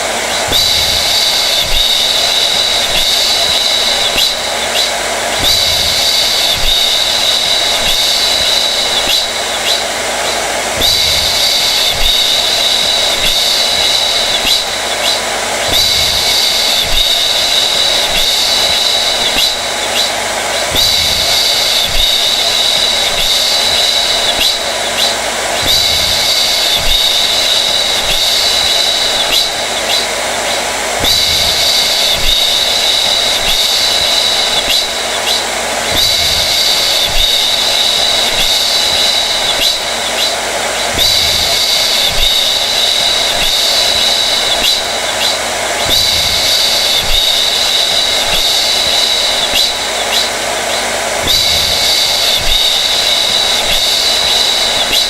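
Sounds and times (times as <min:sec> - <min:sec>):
blow dryer running: 0:00.0 - 0:55.0.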